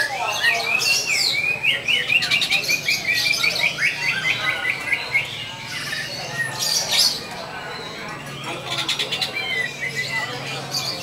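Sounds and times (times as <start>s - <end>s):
cage birds chirping: 0.0s - 11.0s.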